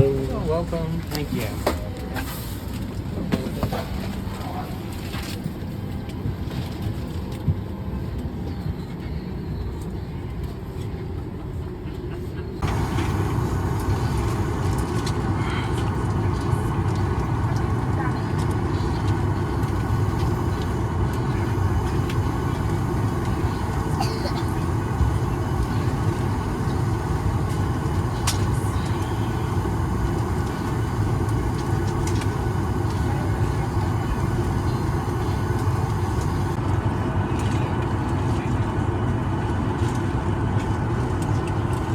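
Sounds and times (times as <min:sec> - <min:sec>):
aircraft ventilation rumble: 0:00.0 - 0:41.9.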